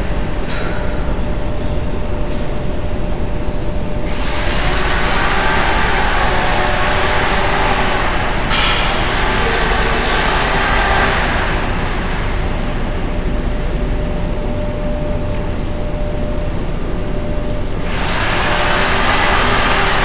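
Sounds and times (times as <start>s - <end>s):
industrial machinery running: 0.0s - 20.0s.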